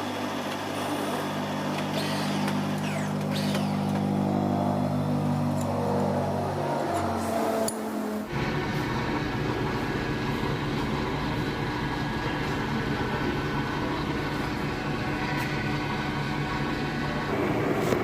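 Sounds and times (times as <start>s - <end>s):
metal lathe humming: 0.0s - 18.0s.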